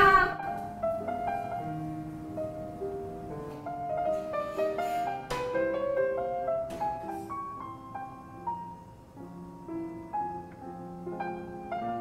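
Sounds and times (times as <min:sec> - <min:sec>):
slow piano melody: 0:00.0 - 0:12.0.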